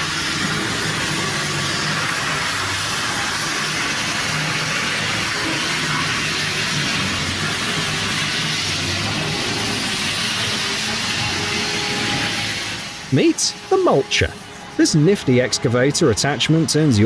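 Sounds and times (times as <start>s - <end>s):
heavy machinery engine drone: 0.0s - 17.0s
loud even hiss: 0.0s - 17.0s.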